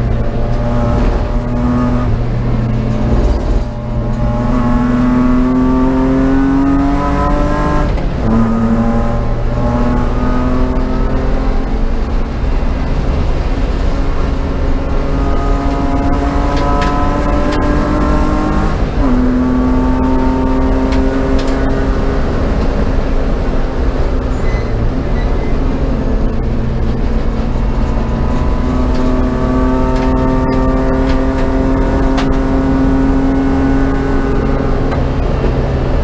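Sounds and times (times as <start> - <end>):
race car engine accelerating: 0.0 - 36.0.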